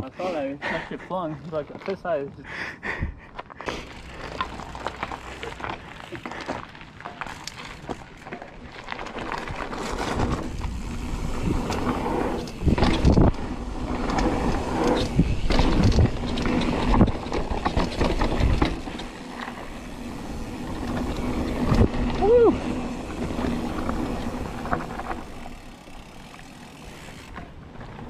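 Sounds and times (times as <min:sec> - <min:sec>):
bike rattling and clattering: 0:03.4 - 0:28.0
tyres crunching over stones: 0:03.4 - 0:28.0.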